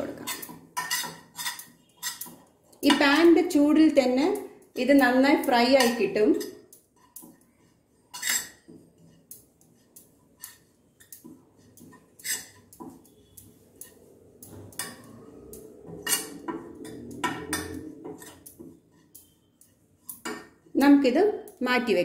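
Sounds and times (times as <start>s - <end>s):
spoon scraping a frying pan: 0.0s - 21.6s.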